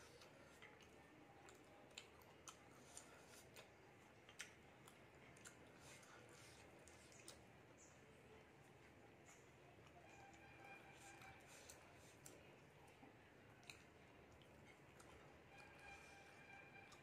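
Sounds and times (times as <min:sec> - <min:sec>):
chewing and mouth sounds: 0:00.0 - 0:08.0, 0:08.7 - 0:17.0.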